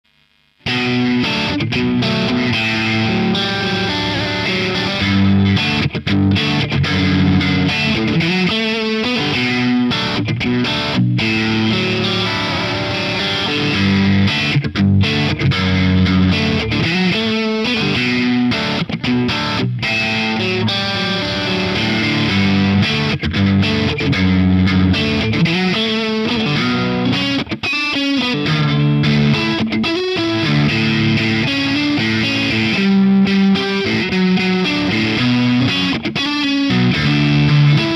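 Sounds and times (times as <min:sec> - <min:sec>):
distorted electric guitar: 0:00.0 - 0:37.9.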